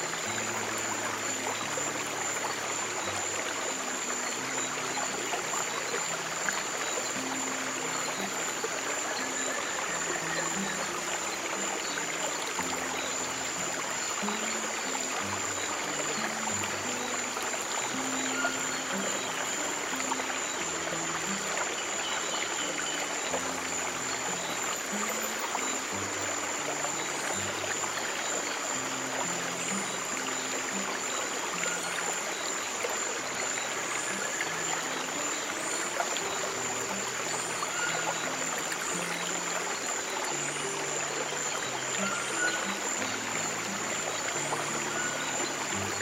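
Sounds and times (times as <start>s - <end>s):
stream water flowing: 0.0s - 46.0s.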